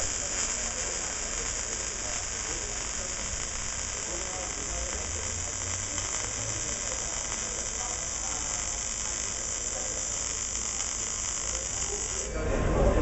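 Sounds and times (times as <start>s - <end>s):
welding arc sizzling hiss: 0.0s - 12.4s.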